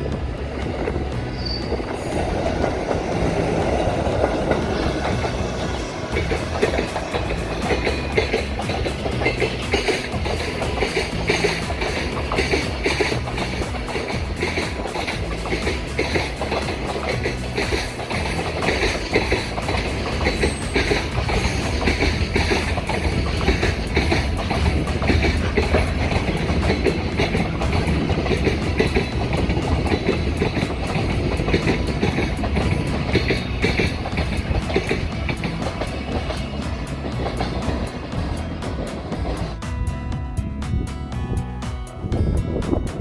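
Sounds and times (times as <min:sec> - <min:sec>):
wheels clacking over rail joints: 0:00.0 - 0:39.9
freight train rumbling past: 0:00.0 - 0:43.0.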